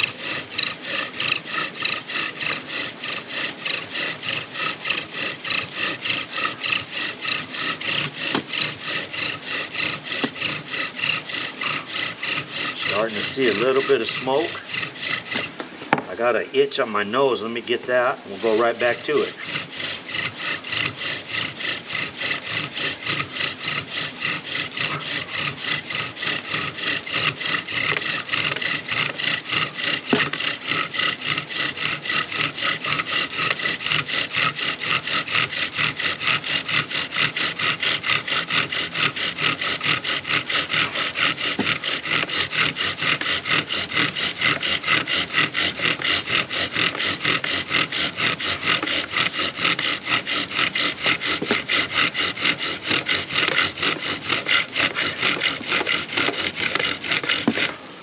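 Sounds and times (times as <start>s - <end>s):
bow drill spindle grinding wood: 0.0s - 58.0s.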